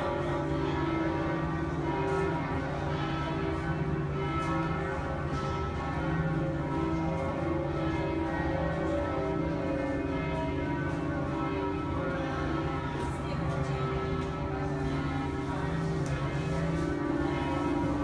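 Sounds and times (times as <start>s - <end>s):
bells ringing: 0.0s - 18.0s.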